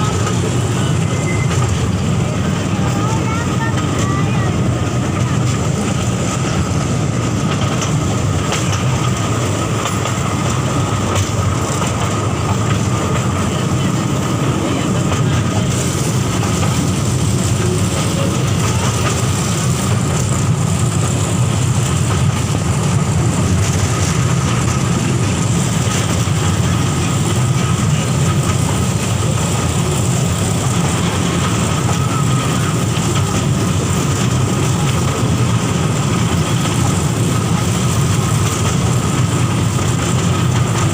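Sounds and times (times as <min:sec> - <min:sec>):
toy train running on track: 0:00.0 - 0:40.9.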